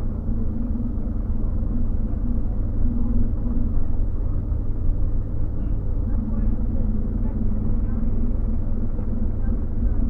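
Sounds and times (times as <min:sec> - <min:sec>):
bus engine rumble: 0:00.0 - 0:10.0.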